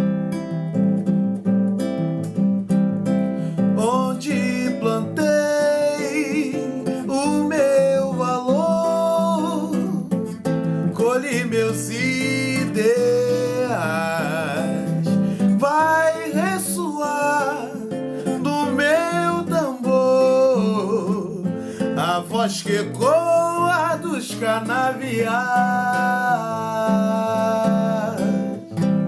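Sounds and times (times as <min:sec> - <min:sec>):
strummed acoustic guitar: 0:00.0 - 0:29.0
man singing: 0:03.8 - 0:29.0.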